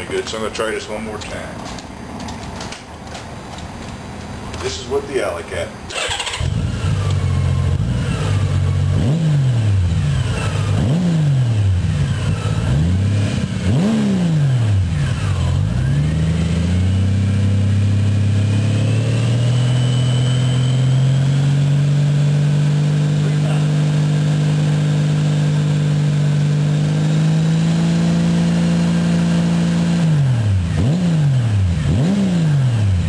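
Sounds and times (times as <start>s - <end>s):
motorcycle engine revving: 5.9s - 33.0s.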